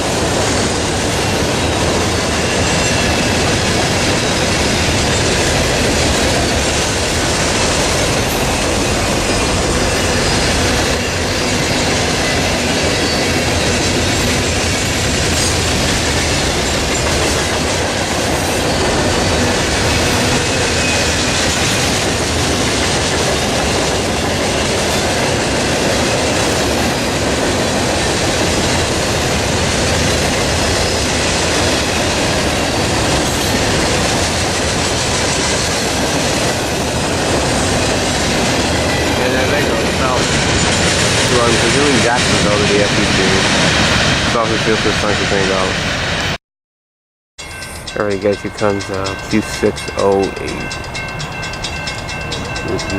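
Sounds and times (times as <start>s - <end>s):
steel wheels clattering on rails: 0.0s - 46.2s, 47.4s - 52.9s.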